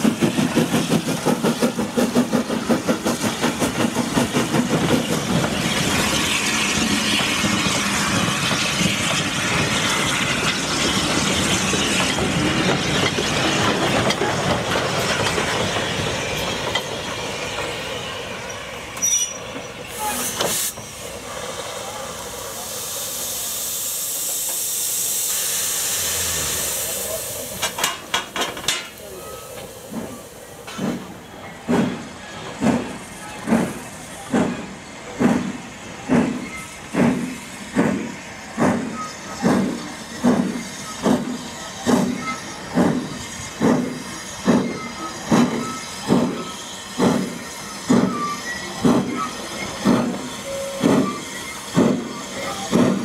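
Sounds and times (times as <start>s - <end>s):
steam locomotive exhaust chuffs: 0.0s - 16.8s, 19.9s - 53.0s
loud hiss of steam: 0.0s - 53.0s.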